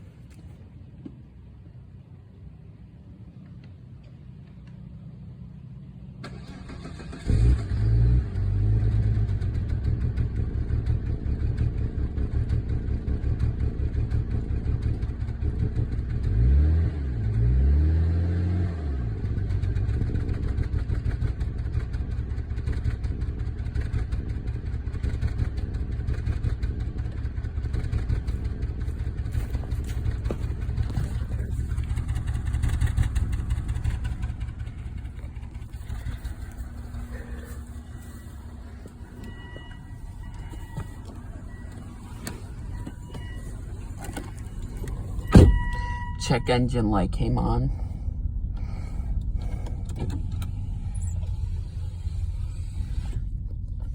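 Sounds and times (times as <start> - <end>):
car engine idling rough: 0.0 - 17.4, 19.1 - 53.9
car engine starting: 4.0 - 53.9
engine revving: 6.2 - 22.1, 25.0 - 53.4.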